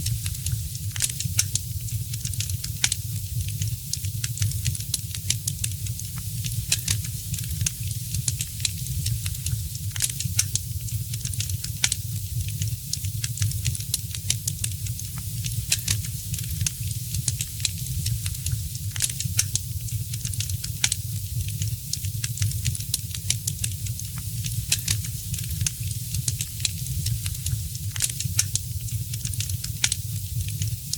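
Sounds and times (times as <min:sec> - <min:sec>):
wood fire crackling: 0:00.0 - 0:30.9.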